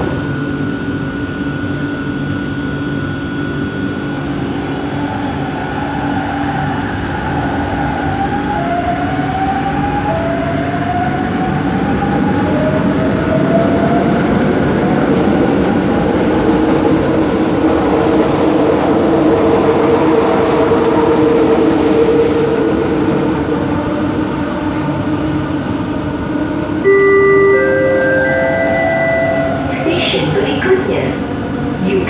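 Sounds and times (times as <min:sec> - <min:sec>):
metro train rumbling: 0:00.0 - 0:32.0.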